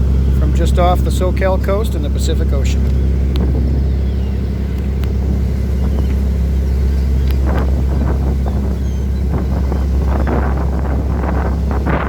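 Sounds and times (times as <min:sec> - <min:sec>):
boat engine droning: 0:00.0 - 0:12.0
wind buffeting microphone: 0:00.0 - 0:12.0.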